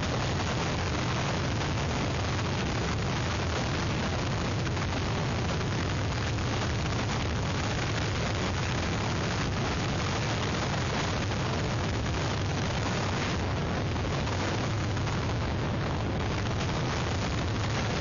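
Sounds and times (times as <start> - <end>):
strong wind and rain: 0.0 - 18.0.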